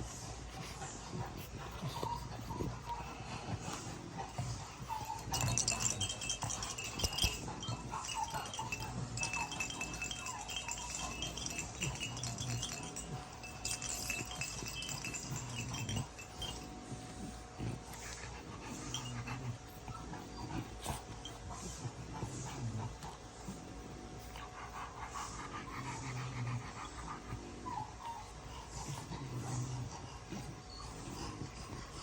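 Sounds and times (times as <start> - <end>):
puppies whining and squeaking: 1.7 - 22.8, 25.7 - 32.0.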